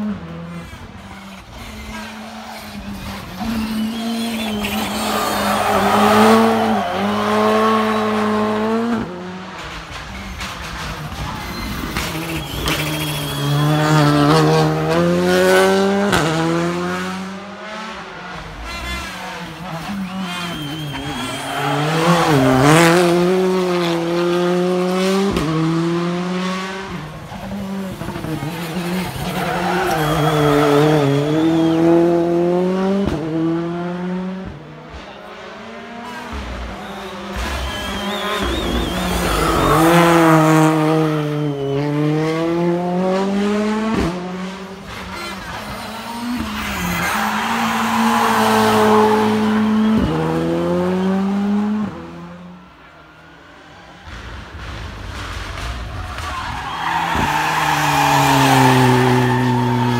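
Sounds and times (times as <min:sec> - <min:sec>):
distant car engines: 0:00.0 - 0:59.9
rally car engine accelerating: 0:00.0 - 0:59.9.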